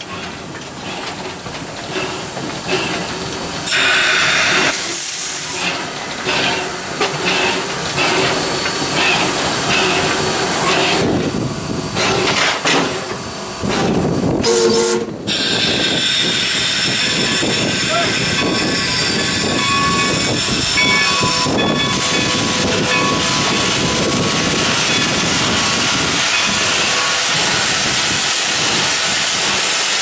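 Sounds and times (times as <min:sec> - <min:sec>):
steam hissing loudly: 0:00.0 - 0:30.0.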